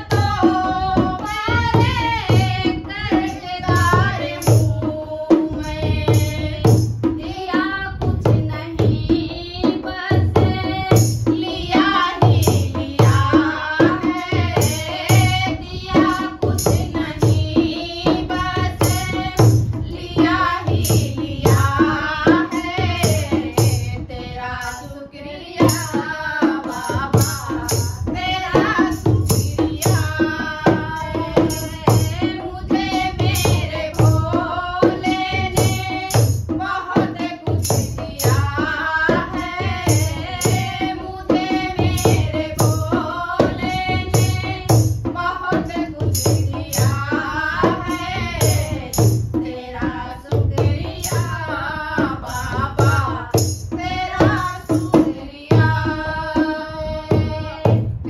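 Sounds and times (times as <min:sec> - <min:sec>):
hand drum beating: 0:00.0 - 0:24.9, 0:25.6 - 0:58.0
women singing in unison: 0:00.0 - 0:58.0.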